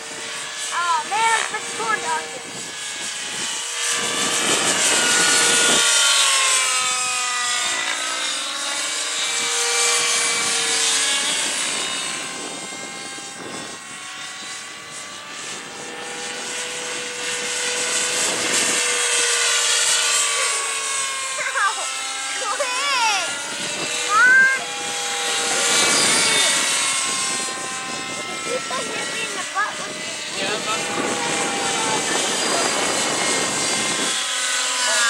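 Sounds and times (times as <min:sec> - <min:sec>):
model helicopter engine and rotor: 0:00.0 - 0:35.0.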